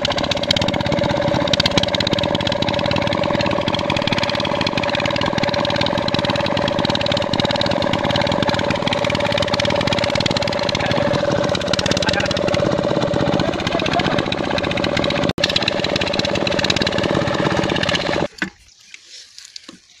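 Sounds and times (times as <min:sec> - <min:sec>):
diesel engine knocking: 0:00.0 - 0:18.3.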